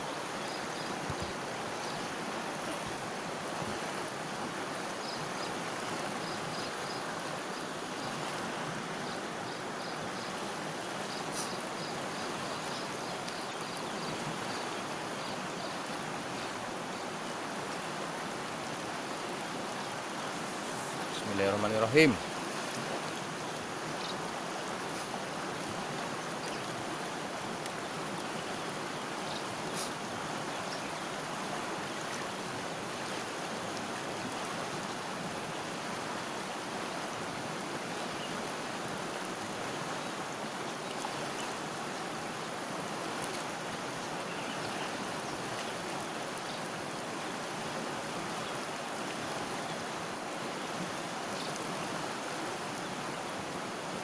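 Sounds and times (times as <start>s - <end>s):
river rushing over boulders: 0.0s - 54.0s.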